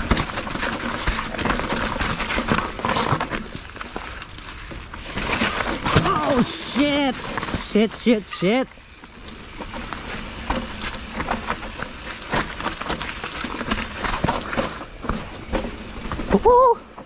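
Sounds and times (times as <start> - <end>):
bike tyres rolling on mud: 0.0 - 17.0.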